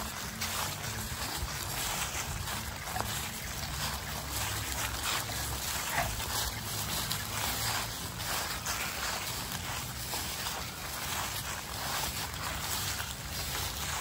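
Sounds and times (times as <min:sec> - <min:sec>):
footsteps crunching through dry leaves: 0:00.0 - 0:14.0.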